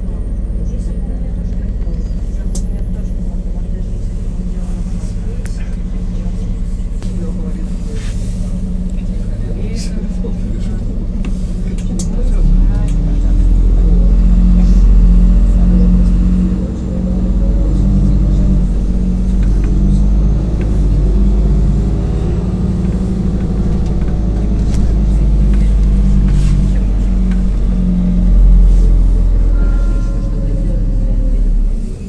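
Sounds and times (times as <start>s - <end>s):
bus engine rumbling: 0.0s - 32.0s
road noise: 0.0s - 32.0s.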